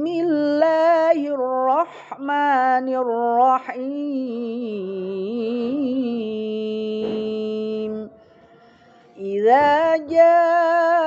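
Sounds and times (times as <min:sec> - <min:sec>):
person chanting melodic recitation: 0:00.0 - 0:08.3, 0:09.2 - 0:11.0.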